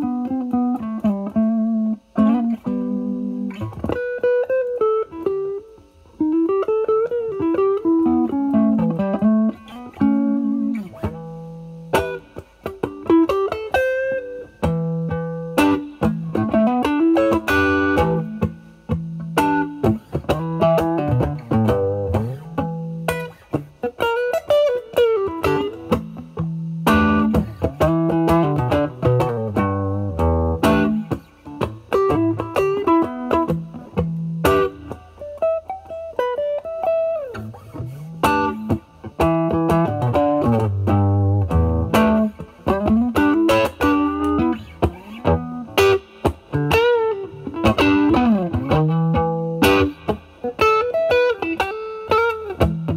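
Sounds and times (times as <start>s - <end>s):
overdriven electric guitar blues licks: 0.0s - 52.9s.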